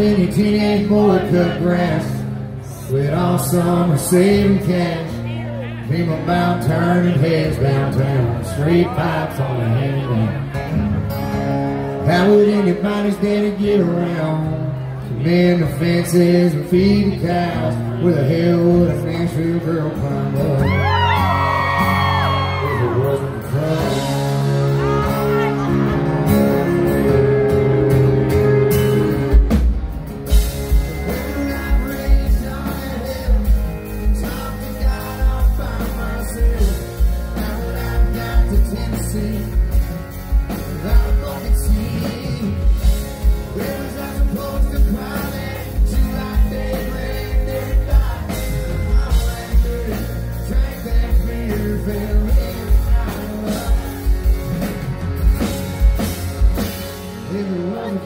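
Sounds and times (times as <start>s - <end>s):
strummed acoustic guitar: 0.0s - 22.0s, 22.9s - 58.0s
country band playing: 0.0s - 58.0s
pedal steel guitar: 0.0s - 58.0s.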